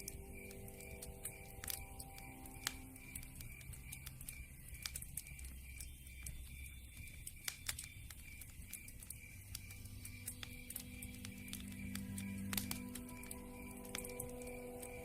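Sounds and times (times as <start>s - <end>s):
campfire crackling: 0.0s - 15.0s
fire popping and snapping: 0.0s - 15.0s.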